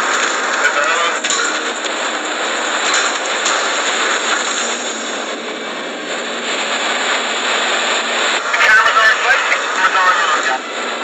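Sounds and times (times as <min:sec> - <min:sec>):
trucks road noise: 0:00.0 - 0:11.0.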